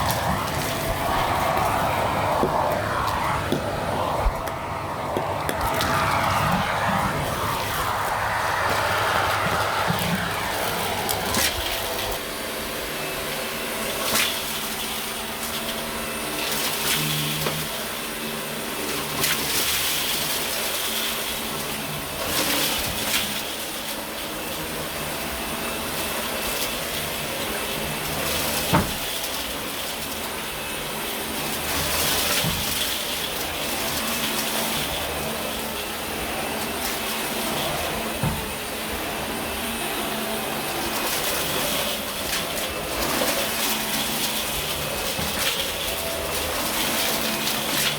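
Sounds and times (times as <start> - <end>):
vacuum cleaner running on carpet: 0.0 - 47.9.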